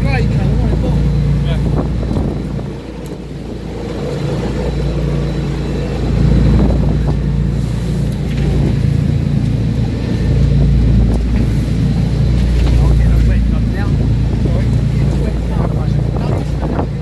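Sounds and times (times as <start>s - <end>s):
boat engine running: 0.0s - 17.0s
wind and sea rushing: 0.0s - 17.0s.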